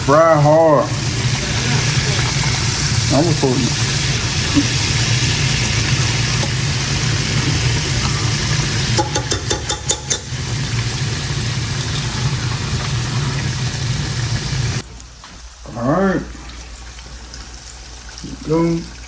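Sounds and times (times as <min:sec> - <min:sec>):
fish sizzling in hot oil: 0:00.0 - 0:14.9, 0:15.5 - 0:19.0.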